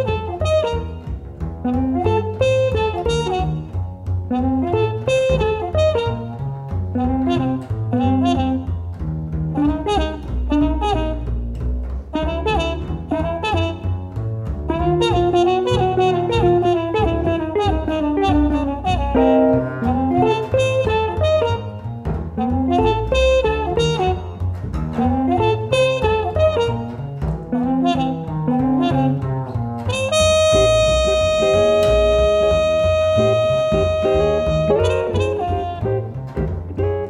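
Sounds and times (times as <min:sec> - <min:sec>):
saxophone melody: 0:00.0 - 0:03.7, 0:04.3 - 0:08.9, 0:09.6 - 0:11.4, 0:12.2 - 0:14.0, 0:14.7 - 0:24.4, 0:25.0 - 0:37.0
double bass line: 0:00.0 - 0:37.0.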